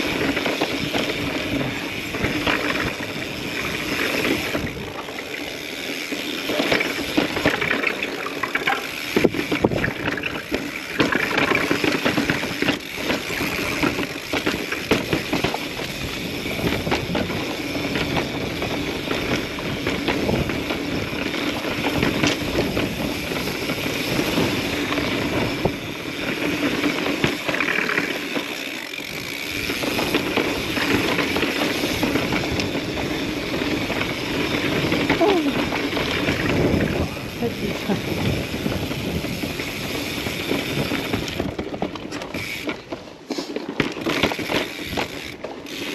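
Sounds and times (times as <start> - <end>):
bike rattles and knocks: 0.0 - 45.9
bike tyres rolling on rock: 0.0 - 45.9.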